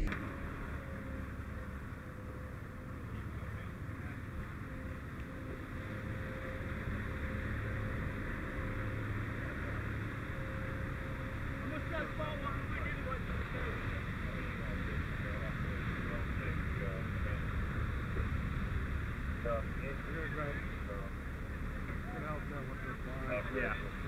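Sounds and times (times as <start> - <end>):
diesel engine running pump: 0.0 - 24.0.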